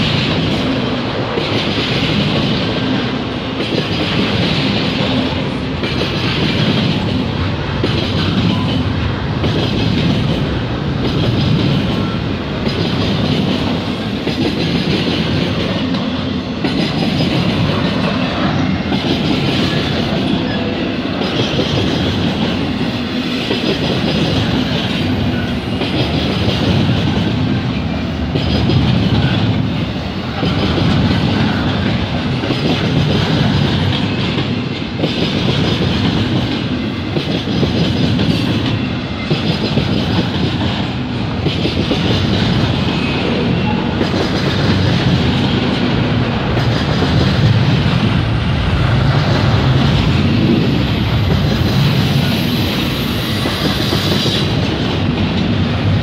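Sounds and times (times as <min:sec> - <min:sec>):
steel wheels rumbling on rail: 0:00.0 - 0:56.0
wheels clacking over rail joints: 0:00.0 - 0:56.0.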